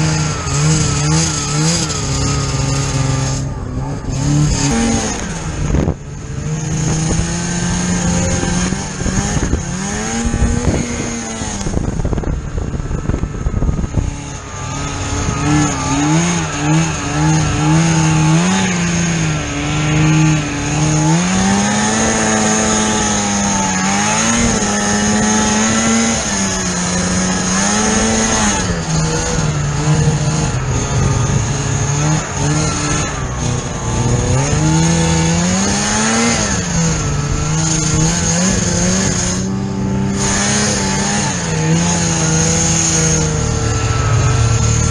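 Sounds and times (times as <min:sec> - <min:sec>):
snowmobile engine revving: 0:00.0 - 0:44.9
steady high whine: 0:00.0 - 0:44.9.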